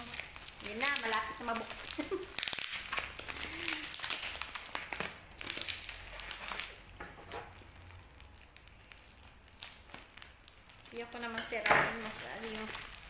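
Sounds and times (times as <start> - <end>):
wrapping crinkling and rustling: 0.0 - 13.0.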